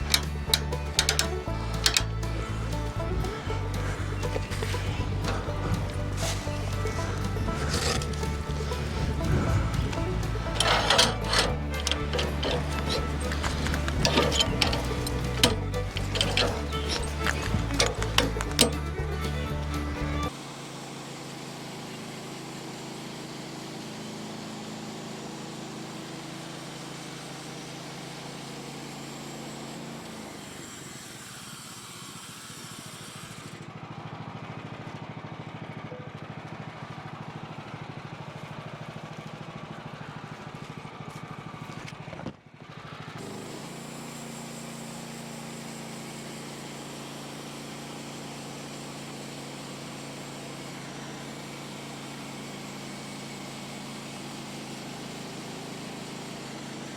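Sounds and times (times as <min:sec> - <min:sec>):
small gas engine running: 0:00.0 - 0:56.9.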